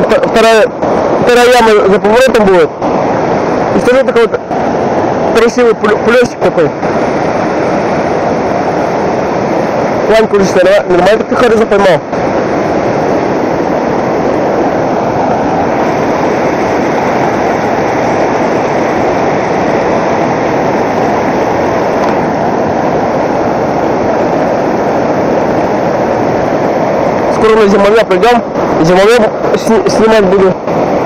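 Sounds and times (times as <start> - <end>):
river rushing over boulders: 0.0 - 31.0.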